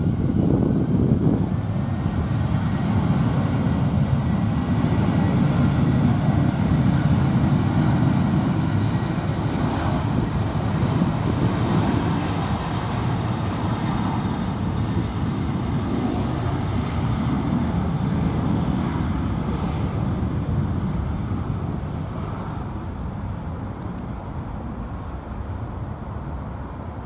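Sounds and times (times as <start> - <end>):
deep jet engine rumble: 0.0 - 27.0.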